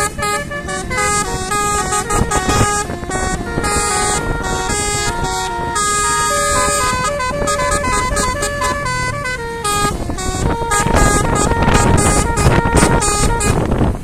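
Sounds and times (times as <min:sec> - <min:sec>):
bus air horns playing a tune: 0:00.0 - 0:14.0.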